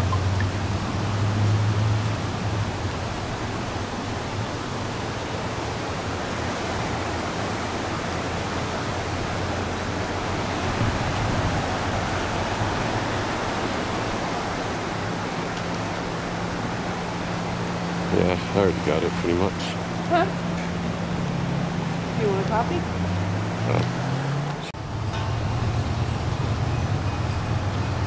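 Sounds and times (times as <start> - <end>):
river rushing over rocks: 0.0 - 28.0.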